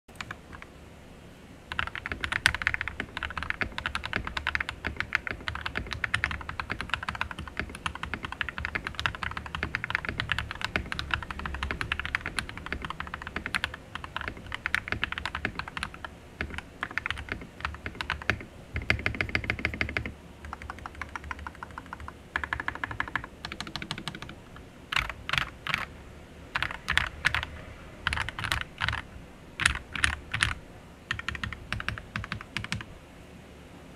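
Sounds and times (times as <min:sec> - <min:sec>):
mechanical keyboard typing: 0:00.1 - 0:00.7, 0:01.7 - 0:25.9, 0:26.5 - 0:32.9.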